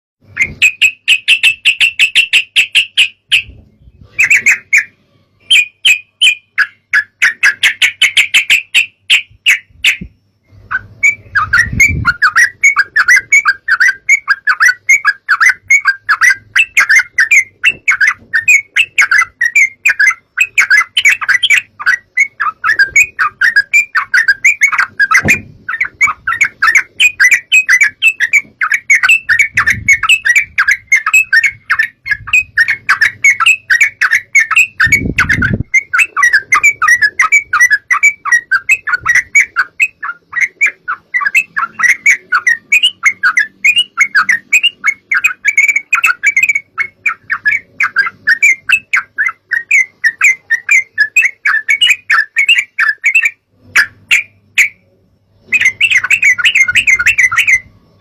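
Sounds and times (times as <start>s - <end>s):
bird song chattering runs: 0.2s - 54.8s, 55.5s - 58.0s.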